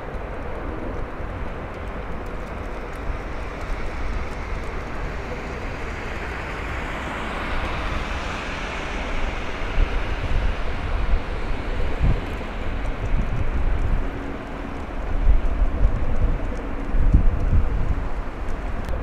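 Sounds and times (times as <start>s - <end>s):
ship engine low rumble: 0.0s - 19.0s.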